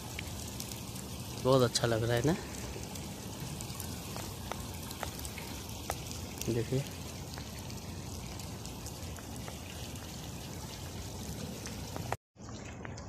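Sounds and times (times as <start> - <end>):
fountain water splashing and trickling: 0.0 - 13.0.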